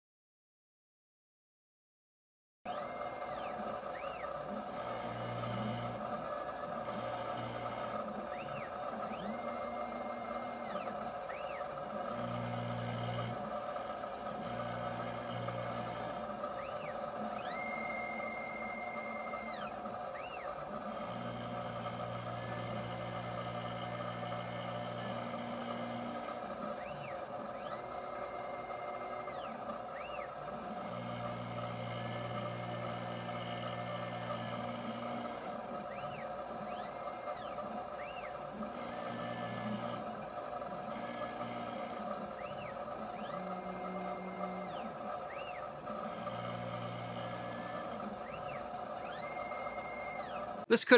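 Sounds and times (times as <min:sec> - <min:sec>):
milling machine cutting metal: 0:02.7 - 0:50.7
motors whining: 0:02.7 - 0:50.9.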